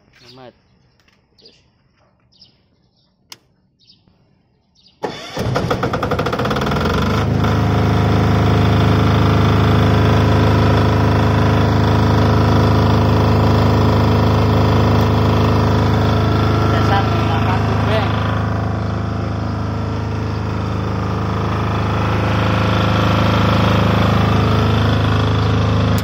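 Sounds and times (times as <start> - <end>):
diesel generator running: 5.0 - 26.0
electric starter cranking: 5.0 - 26.0.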